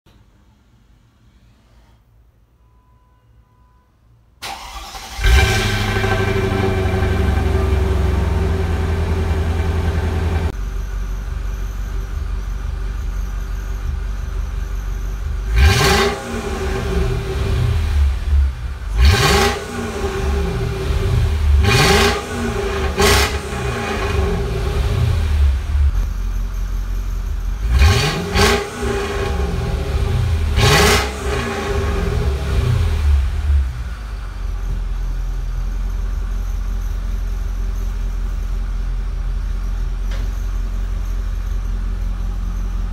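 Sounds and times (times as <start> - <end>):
engine idling and revving: 4.5 - 42.9.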